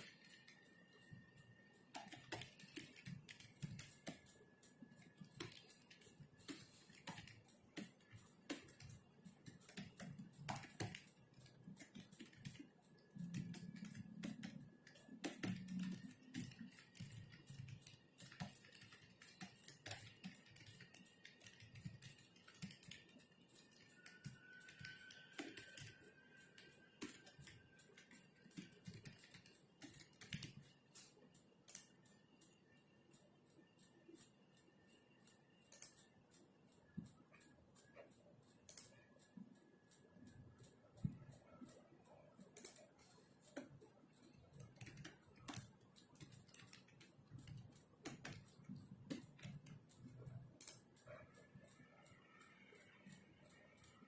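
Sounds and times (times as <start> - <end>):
computer keyboard typing: 0.0 - 54.0.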